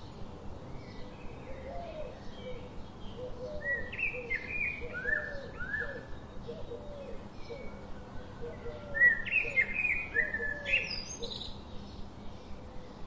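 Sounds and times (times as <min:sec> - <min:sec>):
birds chirping: 0:00.0 - 0:13.0
lower repeated bird calls: 0:00.8 - 0:13.0.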